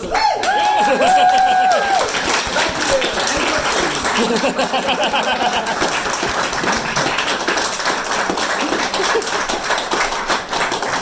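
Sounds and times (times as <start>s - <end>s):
audience applauding: 0.2s - 11.0s.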